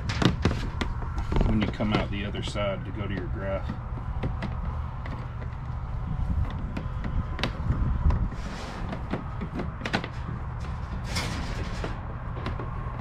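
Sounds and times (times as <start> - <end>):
cable rustling: 0.0 - 13.0.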